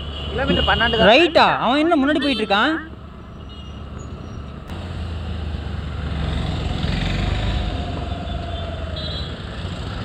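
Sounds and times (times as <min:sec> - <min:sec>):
scooter engine and road noise: 0:00.0 - 0:10.0.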